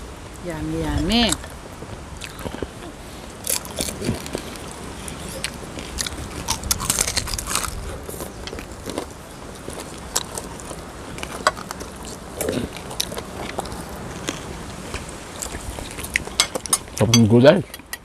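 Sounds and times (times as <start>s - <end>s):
crunching and chewing food: 1.3s - 18.0s
sharp crackles and clicks: 3.5s - 18.0s.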